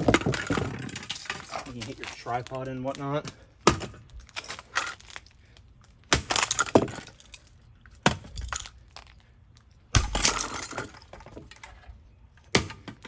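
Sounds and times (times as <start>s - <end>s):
broken parts clattering: 0.0s - 5.3s, 6.2s - 9.2s, 10.0s - 13.0s.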